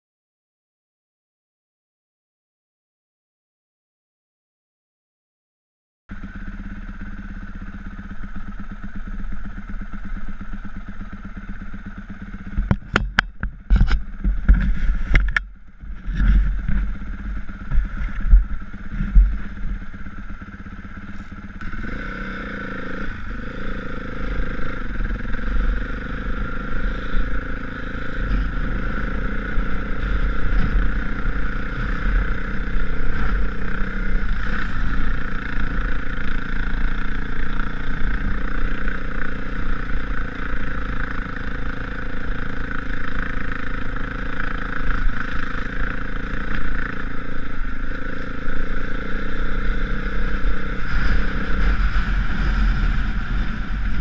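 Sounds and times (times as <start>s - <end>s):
motorcycle engine revving: 6.1s - 54.0s.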